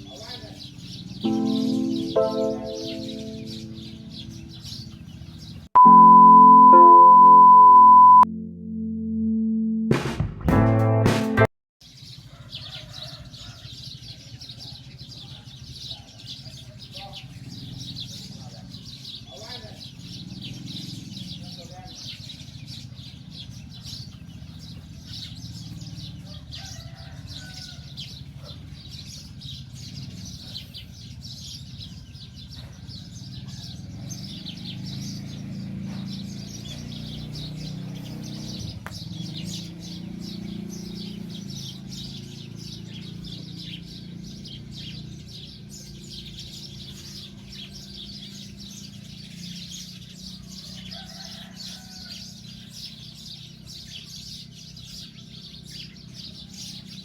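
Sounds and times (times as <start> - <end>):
small birds chirping: 0.0 - 6.6, 11.9 - 57.0.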